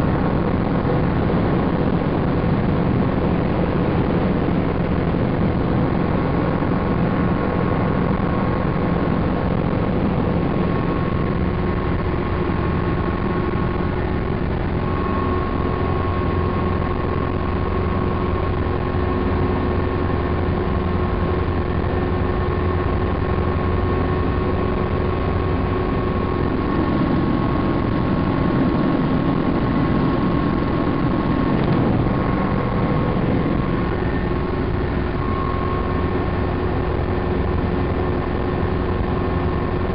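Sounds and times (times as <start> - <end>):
constant whine: 0.0 - 39.9
helicopter engine and rotor noise: 0.0 - 39.9.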